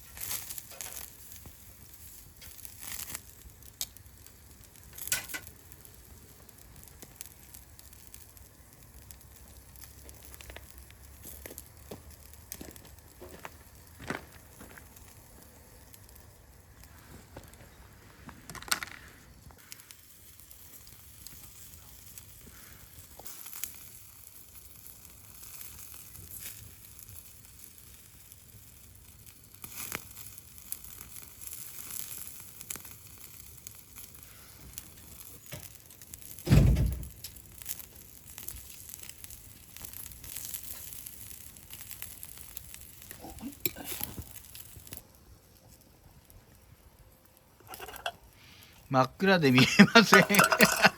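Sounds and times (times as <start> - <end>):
bonfire crackling: 0.0 - 50.9.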